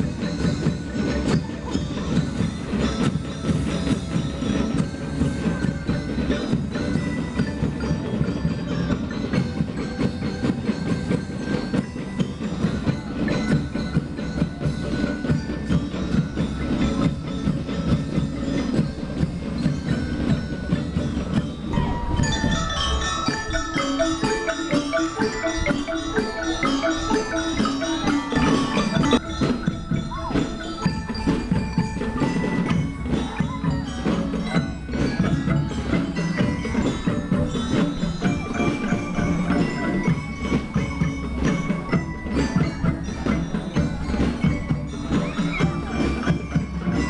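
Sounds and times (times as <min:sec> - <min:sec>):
bell lyres melody: 0:00.0 - 0:47.0.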